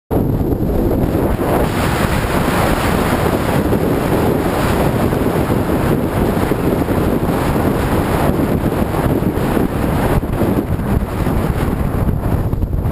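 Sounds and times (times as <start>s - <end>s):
motorcycle road noise: 0.1s - 12.9s
wind buffeting microphone: 0.1s - 12.9s.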